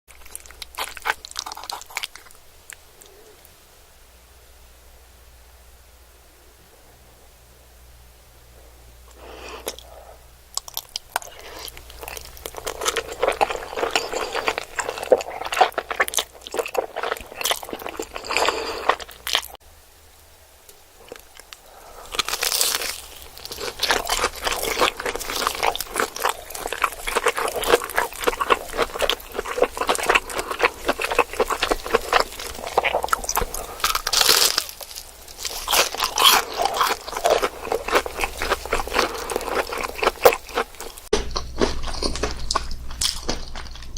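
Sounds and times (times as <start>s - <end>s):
crunchy food chewing: 0.1s - 3.5s, 9.1s - 19.6s, 21.0s - 43.9s.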